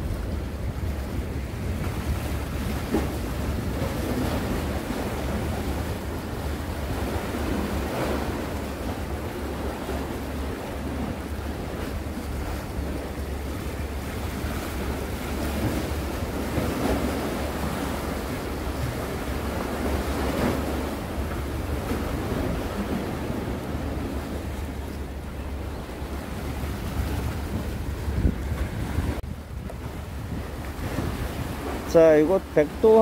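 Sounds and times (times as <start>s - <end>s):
sea waves: 0.0s - 33.0s
wind buffeting microphone: 0.0s - 33.0s.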